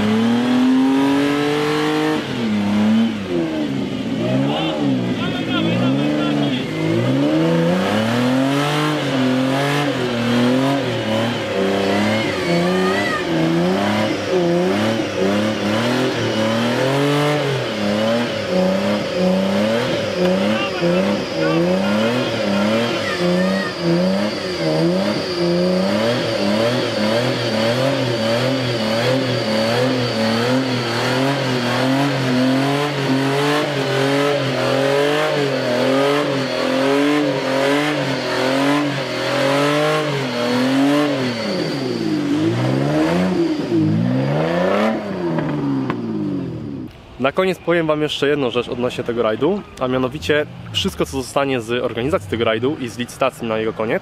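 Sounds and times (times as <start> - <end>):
engine revving: 0.0 - 47.0.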